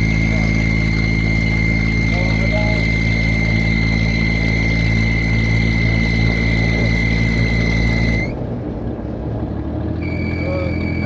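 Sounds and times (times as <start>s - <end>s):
high whine: 0.0s - 8.7s, 10.0s - 11.0s
vehicle engine running: 0.0s - 11.0s.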